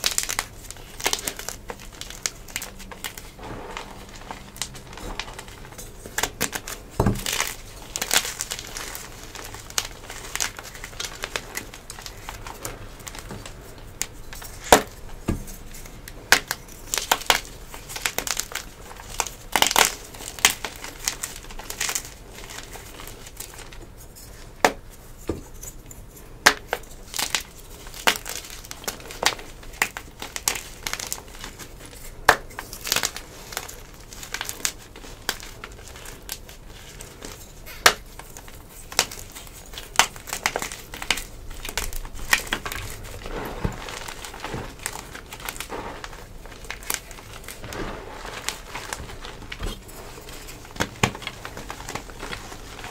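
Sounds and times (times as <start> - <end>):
sharp chalk cracks: 0.0 - 52.9.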